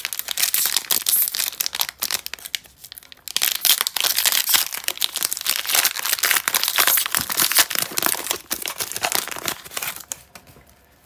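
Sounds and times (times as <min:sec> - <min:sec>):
foil wrapper crinkling: 0:00.0 - 0:10.4.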